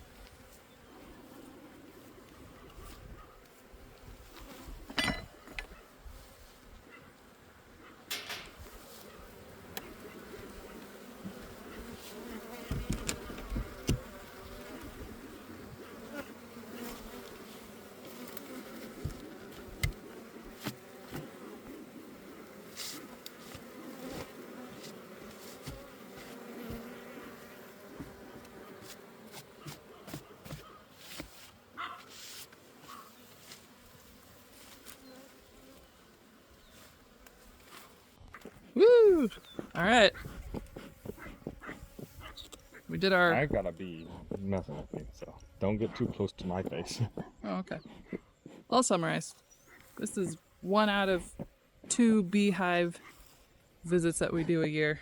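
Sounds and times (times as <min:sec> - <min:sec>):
honeybees buzzing: 0:00.0 - 0:05.6, 0:06.2 - 0:47.3, 0:48.3 - 0:55.0.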